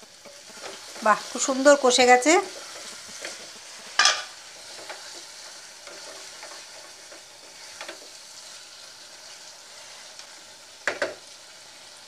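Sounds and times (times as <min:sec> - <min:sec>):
spatula scraping pan: 0:00.0 - 0:10.2
curry sizzling in pan: 0:00.0 - 0:12.0.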